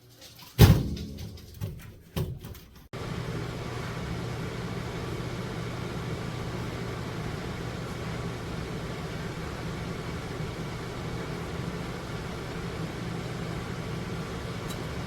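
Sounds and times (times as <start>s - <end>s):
convection fan whirring: 0.0s - 15.0s.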